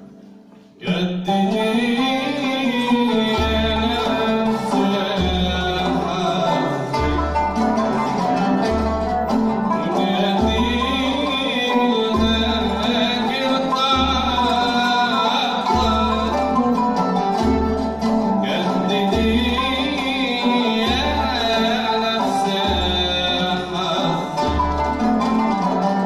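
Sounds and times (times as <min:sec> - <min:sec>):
frame drum rhythm: 0:00.0 - 0:26.0
oud: 0:00.0 - 0:26.0
qanun: 0:00.0 - 0:26.0
violin: 0:00.0 - 0:26.0.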